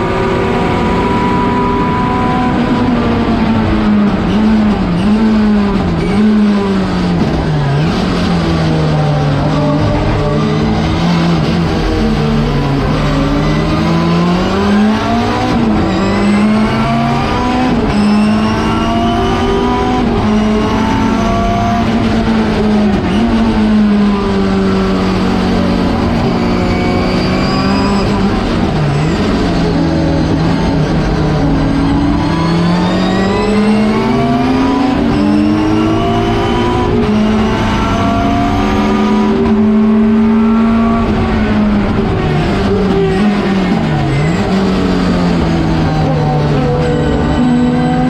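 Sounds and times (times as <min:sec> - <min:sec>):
race car engine revving through gears: 0:00.0 - 0:48.0.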